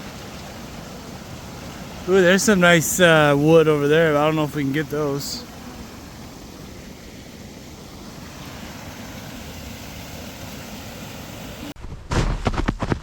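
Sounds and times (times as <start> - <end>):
water rushing at small waterfall: 0.0 - 11.8.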